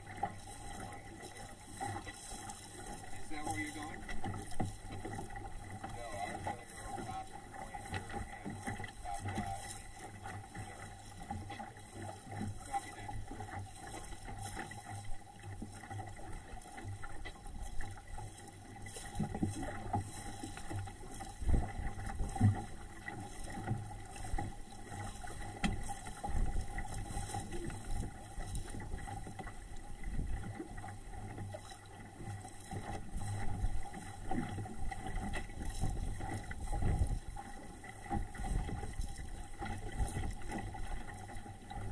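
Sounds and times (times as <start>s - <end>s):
water rushing along boat hull: 0.0s - 41.9s.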